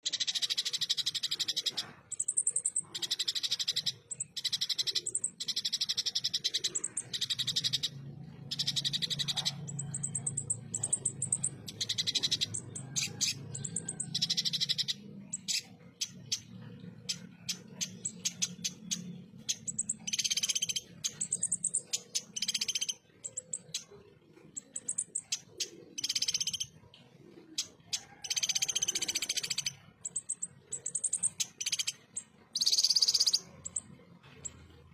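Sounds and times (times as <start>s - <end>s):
bird ticking: 0.0s - 34.9s.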